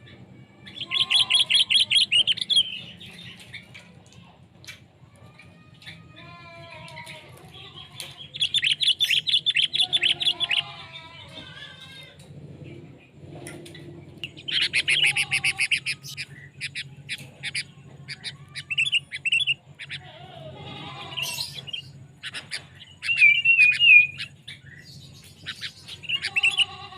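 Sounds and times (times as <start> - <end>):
bulbuls chattering and whistling: 0.0 - 26.9.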